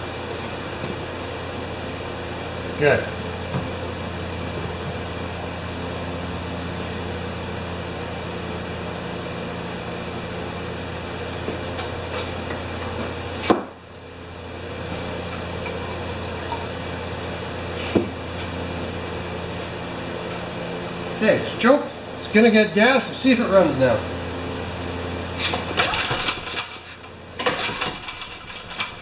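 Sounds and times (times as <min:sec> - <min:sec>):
workshop background hum: 0:00.0 - 0:29.0.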